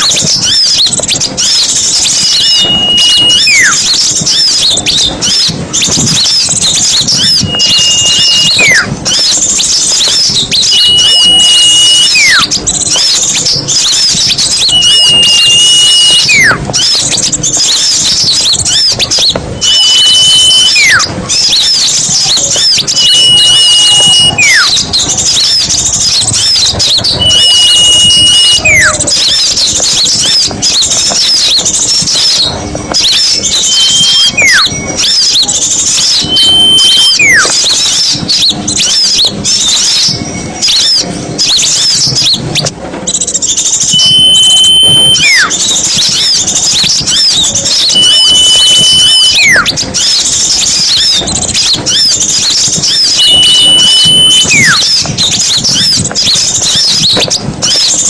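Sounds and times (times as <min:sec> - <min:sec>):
songbirds chirping and twittering: 0:00.0 - 0:58.0
whistle dropping in pitch: 0:00.0 - 0:58.0.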